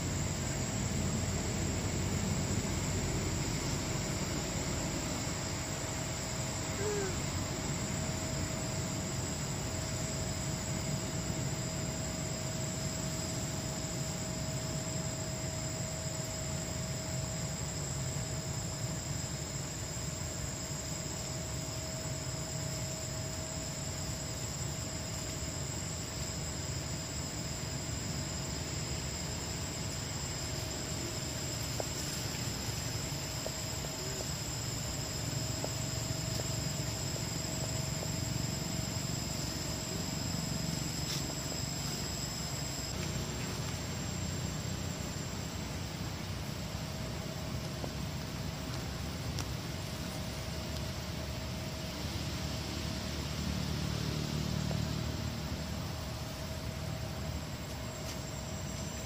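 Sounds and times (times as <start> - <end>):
insect chorus: 0.0 - 59.0.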